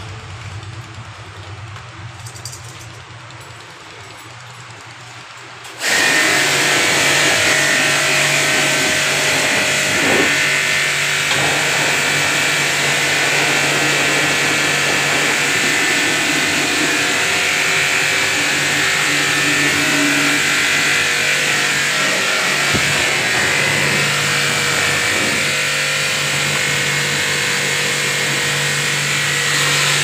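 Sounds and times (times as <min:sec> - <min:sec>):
pressure washer motor hum: 0:03.3 - 0:30.0.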